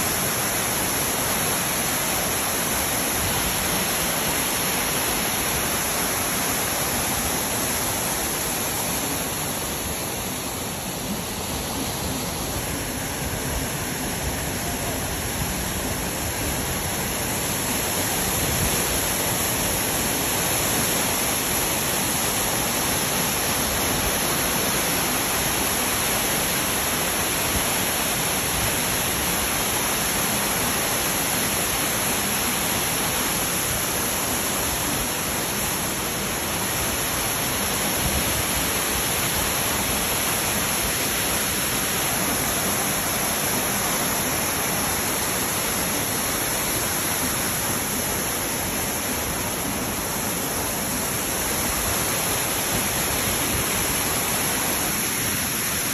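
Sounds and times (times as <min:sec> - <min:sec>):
waterfall rushing over rocks: 0:00.0 - 0:55.9.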